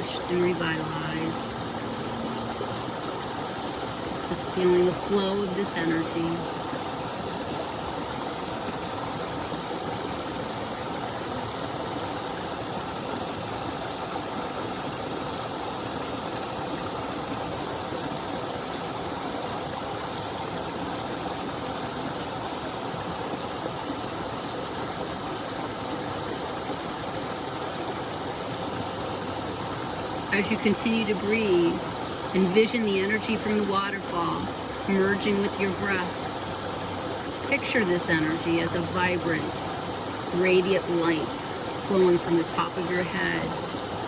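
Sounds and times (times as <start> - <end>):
small waterfall pouring: 0.0 - 44.0.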